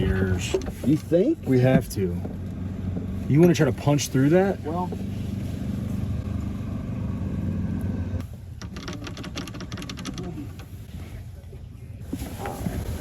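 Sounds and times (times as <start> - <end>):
golf cart engine humming: 0.0 - 10.9.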